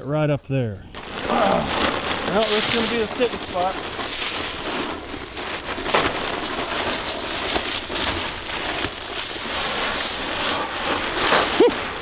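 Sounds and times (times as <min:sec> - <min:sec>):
corn kernels pouring onto leaves: 0:00.9 - 0:12.0.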